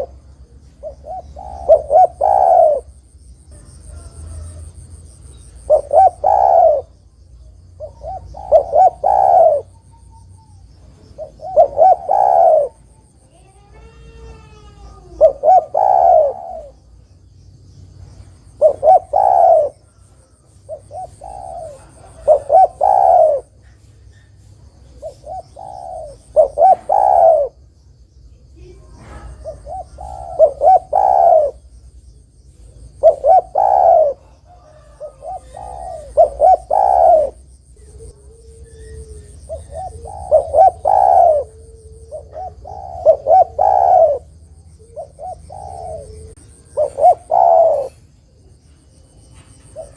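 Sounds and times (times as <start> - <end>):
dove cooing: 0.0 - 17.0, 18.4 - 24.2, 24.8 - 27.7, 28.5 - 31.8, 32.6 - 48.6, 49.4 - 49.9.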